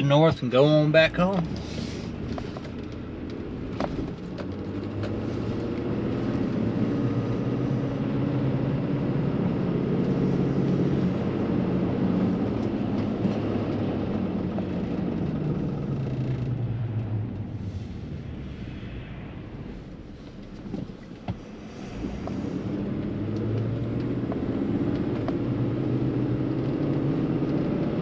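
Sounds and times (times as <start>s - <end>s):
car engine hum and road noise: 0.0s - 28.0s.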